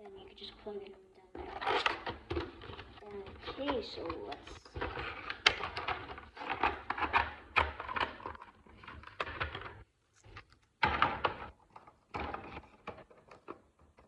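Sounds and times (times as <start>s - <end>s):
packaging clicks and knocks: 1.4s - 14.0s.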